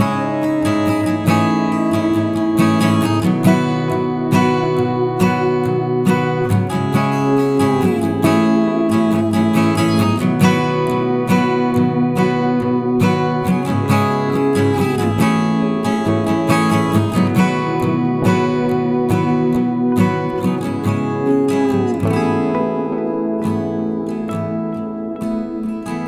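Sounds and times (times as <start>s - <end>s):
acoustic guitar background music: 0.0s - 26.0s.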